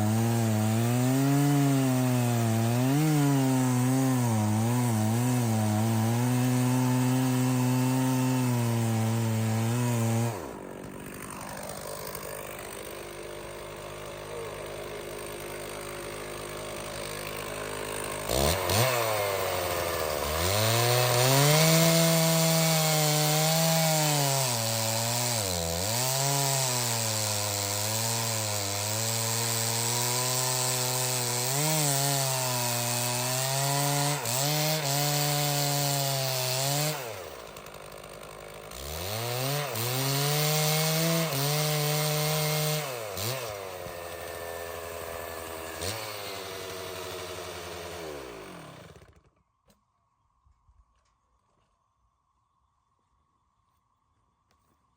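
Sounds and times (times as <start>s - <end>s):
chainsaw cutting through log: 0.0s - 49.4s
chainsaw revving and idling: 0.0s - 49.4s.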